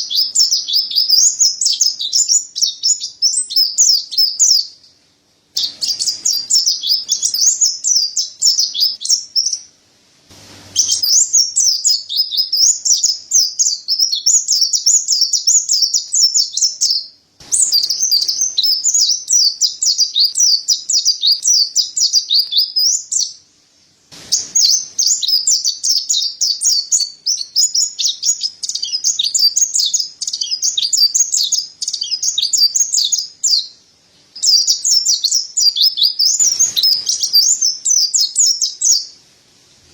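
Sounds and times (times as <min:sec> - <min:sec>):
bird twittering: 0:00.0 - 0:04.8, 0:05.6 - 0:09.7, 0:10.8 - 0:23.4, 0:24.4 - 0:33.8, 0:34.4 - 0:39.2.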